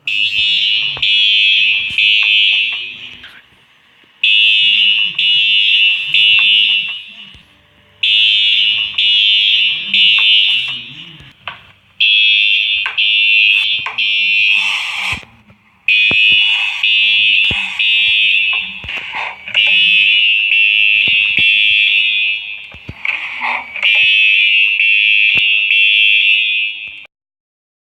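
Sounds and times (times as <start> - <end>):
fire alarm beeping: 0.0 - 3.6, 4.2 - 11.4, 12.0 - 15.3, 15.9 - 27.1.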